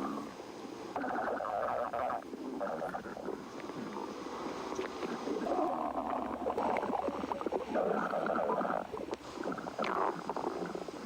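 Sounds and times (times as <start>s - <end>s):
stomach growling and gurgling: 1.0s - 11.0s.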